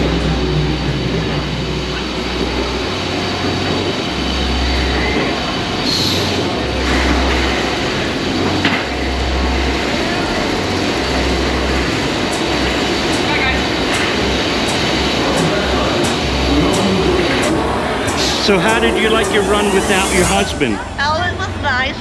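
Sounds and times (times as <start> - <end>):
roller coaster train rumbling on track: 0.0 - 22.0.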